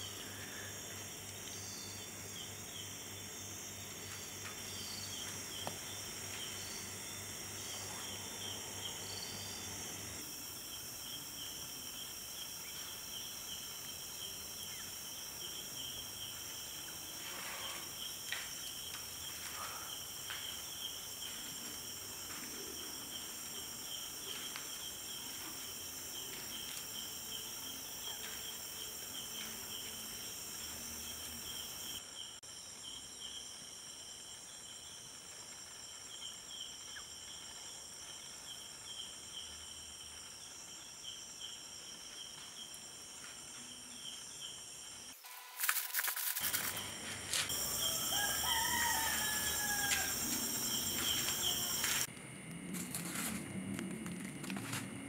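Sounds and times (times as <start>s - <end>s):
night insects chirping: 0.0s - 55.0s.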